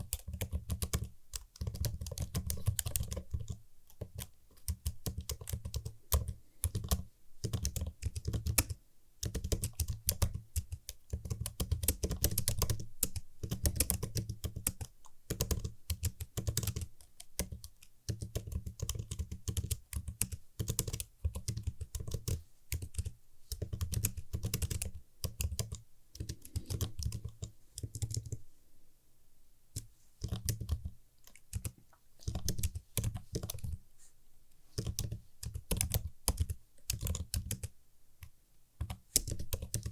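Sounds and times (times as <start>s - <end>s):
computer keyboard typing: 0.0s - 28.4s, 29.7s - 33.8s, 34.8s - 39.9s.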